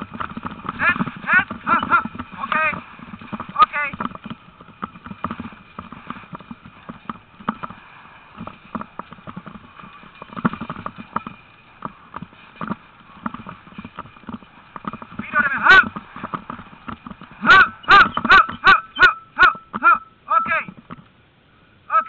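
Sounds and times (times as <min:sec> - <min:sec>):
harness knocks and rattles: 0:00.0 - 0:21.2
sled dogs running on grass: 0:00.0 - 0:21.2.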